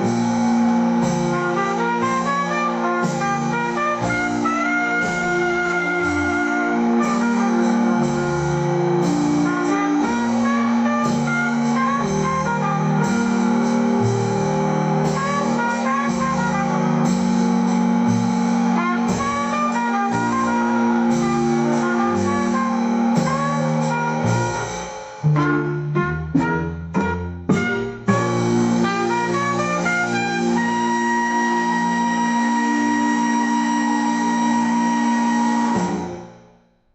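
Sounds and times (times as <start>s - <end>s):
moving bass line: 0.0s - 36.2s
wind instrument melody: 0.0s - 36.2s.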